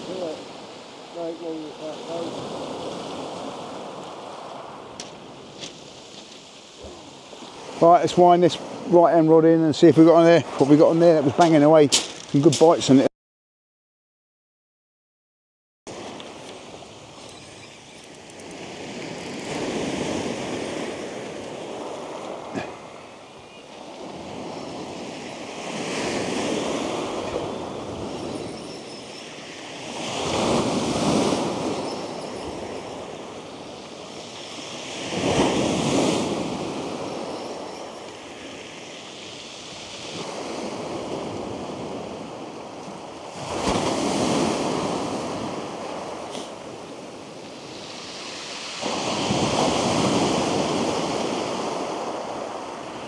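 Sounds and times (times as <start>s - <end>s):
waves on shingle beach: 0.0s - 13.0s, 15.9s - 53.0s.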